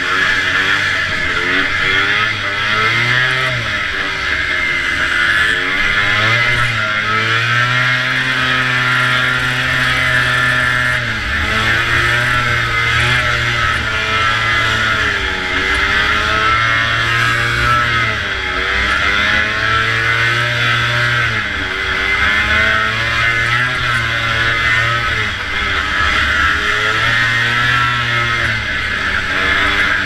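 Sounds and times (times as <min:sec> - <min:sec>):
snowmobile engine racing: 0:00.0 - 0:30.0.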